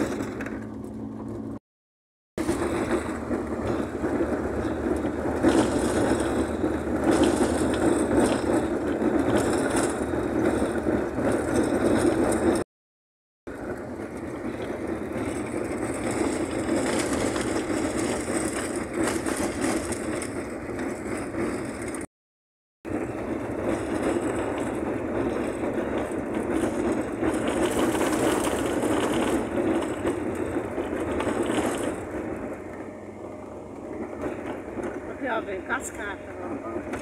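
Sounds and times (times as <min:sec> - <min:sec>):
van engine and road noise: 0:00.0 - 0:01.6, 0:02.4 - 0:12.7, 0:13.5 - 0:22.1, 0:22.8 - 0:37.0.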